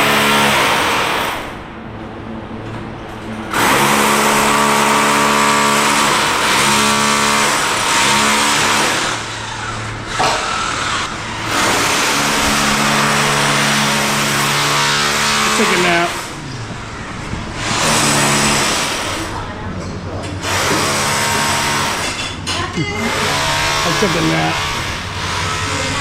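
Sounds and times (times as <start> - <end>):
electric demolition hammer pounding: 0.0 - 1.8, 3.4 - 19.5, 20.4 - 26.0.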